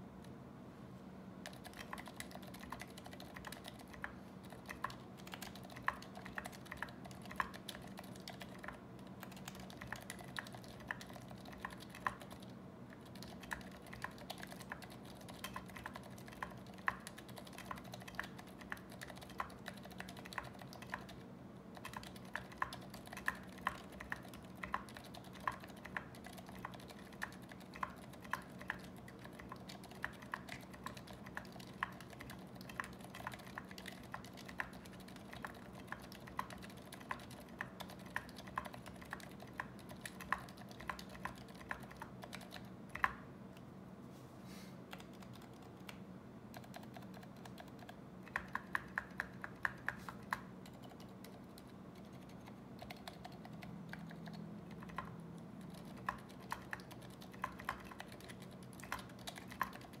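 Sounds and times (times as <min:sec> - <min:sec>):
quiet keyboard keystrokes: 0:01.4 - 0:43.7, 0:44.9 - 1:00.0.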